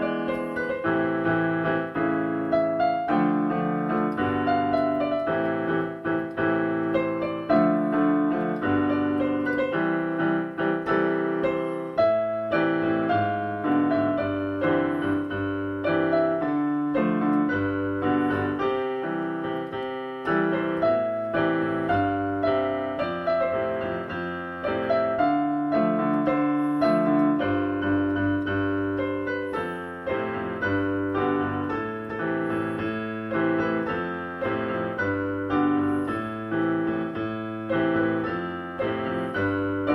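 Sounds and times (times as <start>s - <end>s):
solo piano pop song: 0.0s - 39.9s.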